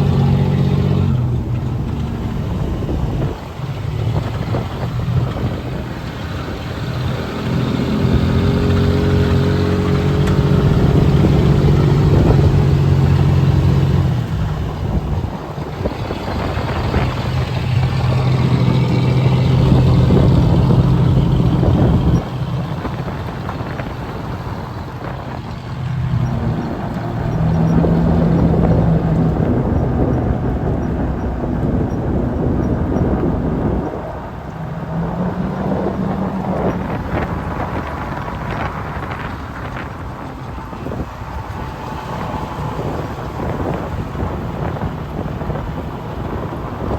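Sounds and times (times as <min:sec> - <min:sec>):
car engine running under load: 0:00.0 - 0:46.9.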